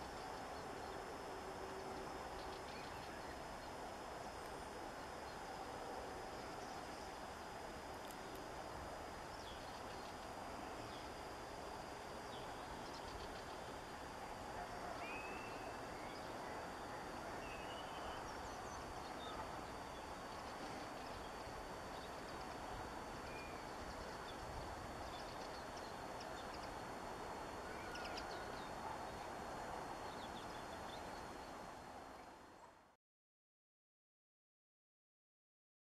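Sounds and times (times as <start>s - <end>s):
faint high whine: 0.0s - 33.0s.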